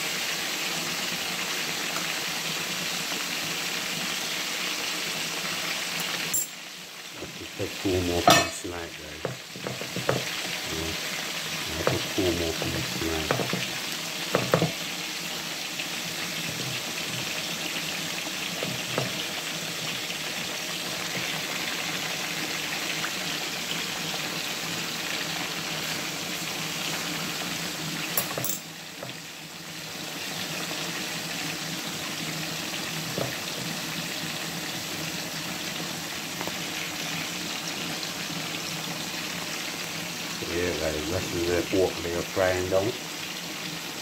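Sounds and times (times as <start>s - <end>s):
meat sizzling in bubbling oil: 0.0s - 44.0s.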